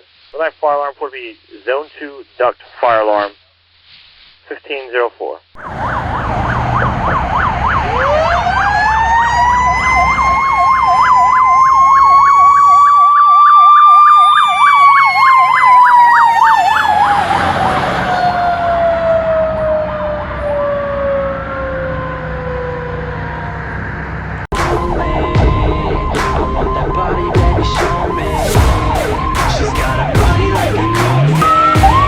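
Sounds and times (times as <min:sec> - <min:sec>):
electronic siren yelping: 0:05.6 - 0:32.0
mechanical siren whine: 0:05.6 - 0:32.0.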